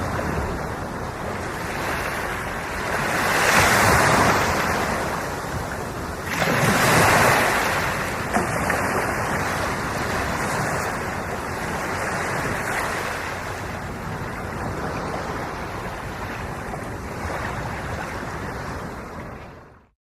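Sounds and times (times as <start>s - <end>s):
ocean waves washing in: 0.0s - 19.9s.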